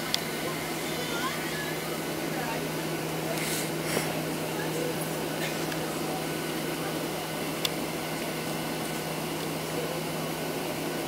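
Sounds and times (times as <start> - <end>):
aircraft engines idling: 0.0 - 11.0
cabin air system hum: 0.0 - 11.0.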